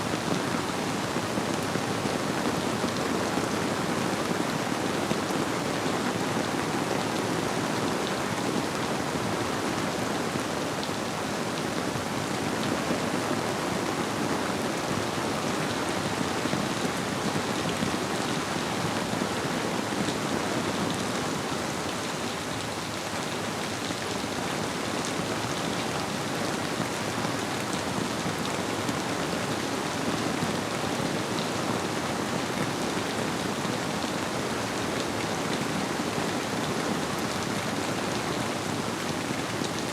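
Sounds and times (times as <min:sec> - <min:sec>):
rainfall: 0:00.0 - 0:39.9.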